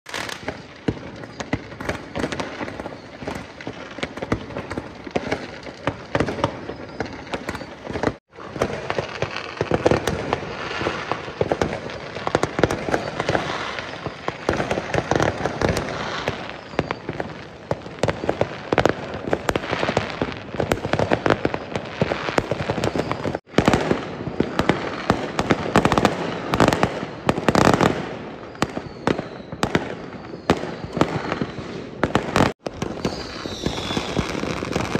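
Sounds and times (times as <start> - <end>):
fireworks bangs and crackling: 0.1 - 34.9.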